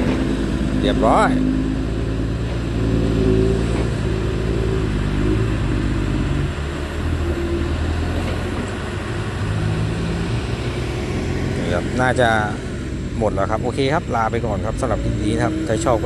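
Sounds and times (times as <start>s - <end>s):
diesel truck engine under load: 0.0s - 16.0s.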